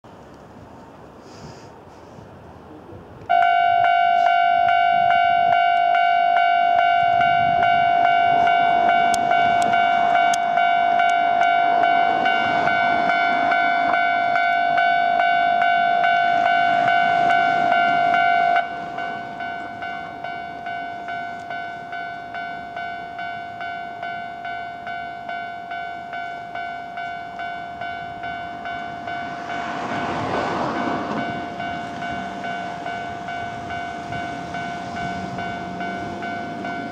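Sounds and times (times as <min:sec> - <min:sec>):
approaching train running noise: 0:00.1 - 0:36.9
electronic crossing bell ringing: 0:03.3 - 0:36.9.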